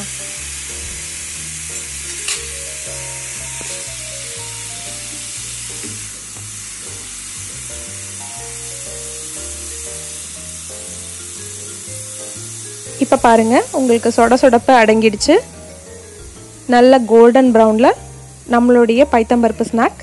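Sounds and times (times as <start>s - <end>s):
background music: 0.0s - 20.0s
food sizzling in hot oil: 0.0s - 20.0s.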